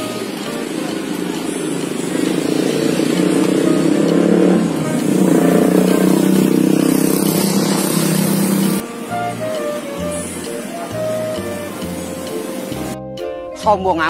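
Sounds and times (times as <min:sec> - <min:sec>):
motorcycle engines passing: 0:00.0 - 0:13.0.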